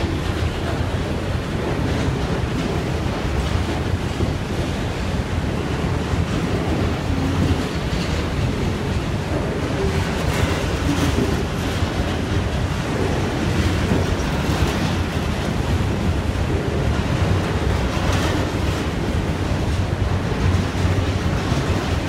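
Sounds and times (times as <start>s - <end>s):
train wheels rumbling on rails: 0.0s - 22.0s
wind buffeting microphone: 0.0s - 22.0s.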